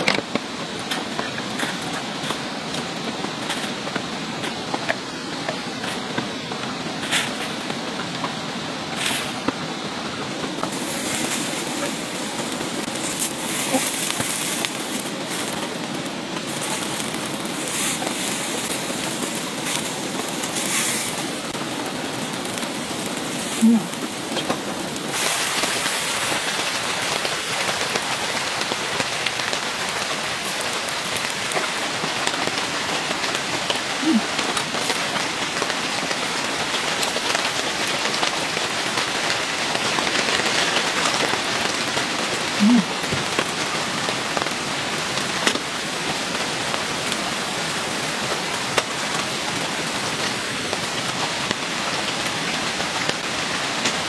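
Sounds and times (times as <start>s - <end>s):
rain falling on a tent: 0.0s - 54.0s.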